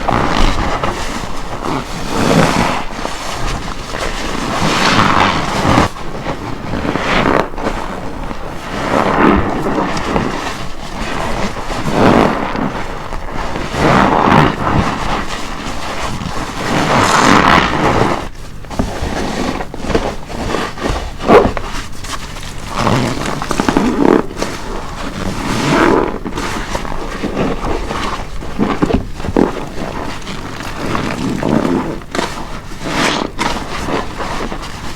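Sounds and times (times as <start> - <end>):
wet sponge squelching: 0.0 - 34.9.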